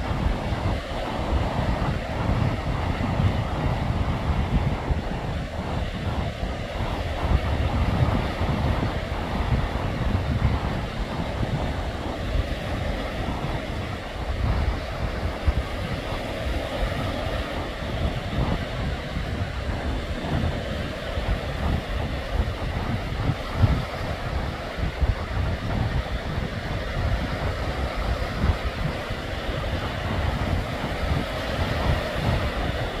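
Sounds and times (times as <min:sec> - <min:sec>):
small sea waves washing: 0:00.0 - 0:33.0
wind buffeting microphone: 0:00.0 - 0:33.0.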